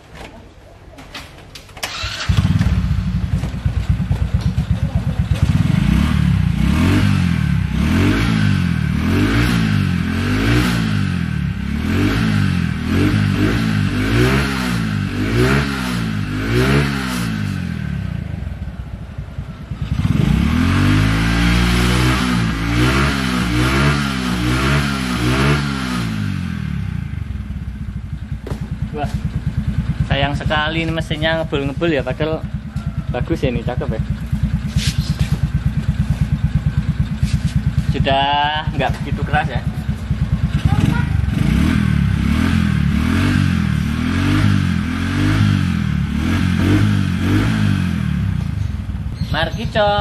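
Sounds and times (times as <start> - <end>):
small motorcycle engine revving: 1.8 - 18.8, 19.4 - 50.0.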